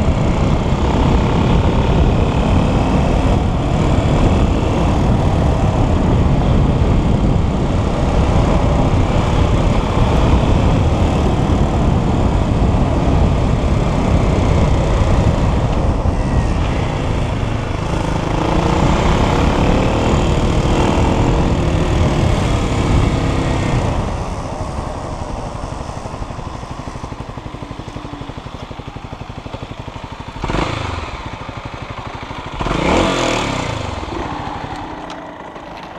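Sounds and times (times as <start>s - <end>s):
dirt bike engine revving: 0.0s - 26.4s, 28.3s - 35.8s.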